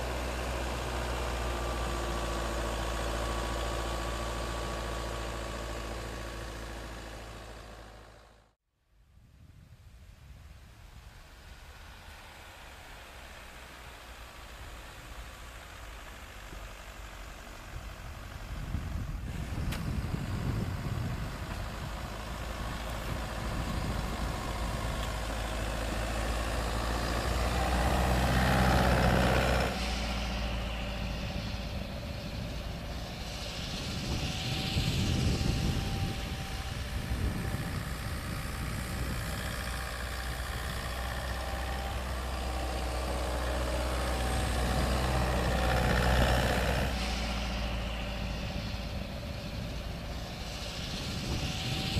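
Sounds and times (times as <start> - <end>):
suv engine under load: 0.0 - 8.6, 10.6 - 51.9.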